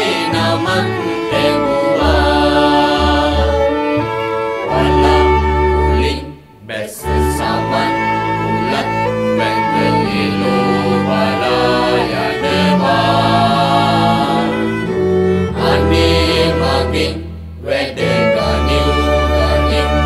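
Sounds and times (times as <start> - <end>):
string ensemble playing chords: 0.0 - 20.0.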